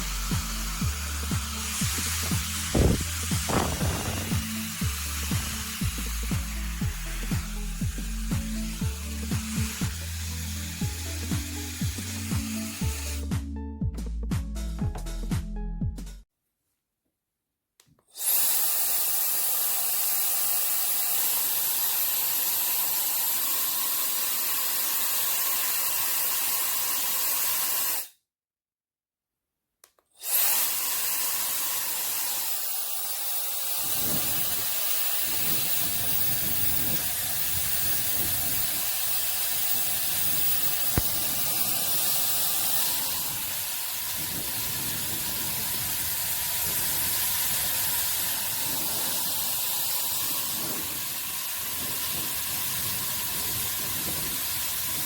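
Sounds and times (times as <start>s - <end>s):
hair dryer blowing: 0.0s - 13.4s, 18.2s - 28.1s, 30.2s - 55.0s.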